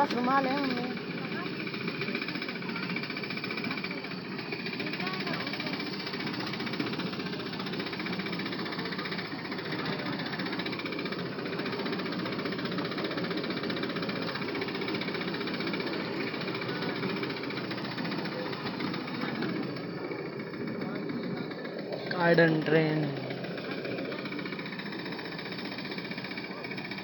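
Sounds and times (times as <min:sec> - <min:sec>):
miniature train clatter: 0:00.0 - 0:27.0.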